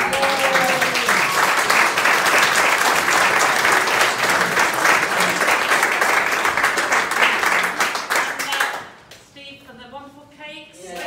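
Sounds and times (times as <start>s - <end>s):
applause: 0.0s - 9.0s.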